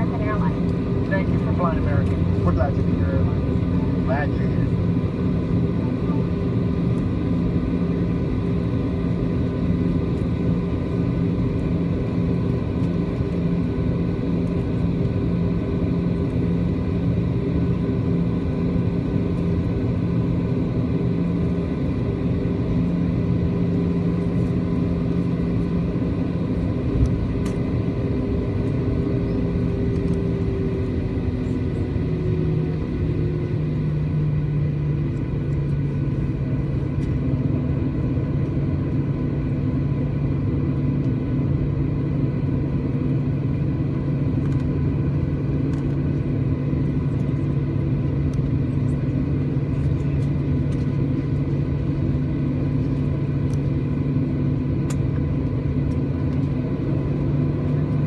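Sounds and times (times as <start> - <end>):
jet engines rumbling: 0.0 - 58.0
steady hums: 0.0 - 58.0.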